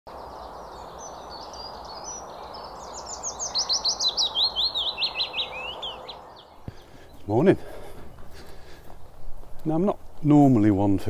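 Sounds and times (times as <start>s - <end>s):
steady background hiss: 0.1s - 11.0s
warbler singing: 0.1s - 11.0s.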